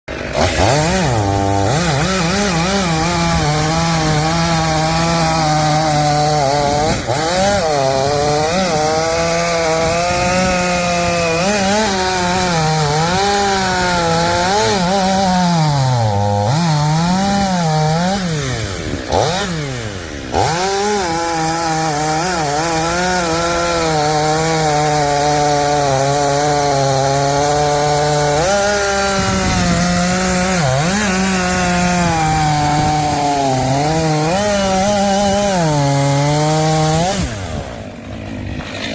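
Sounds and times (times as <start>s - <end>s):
chainsaw cutting wood: 0.1s - 38.9s.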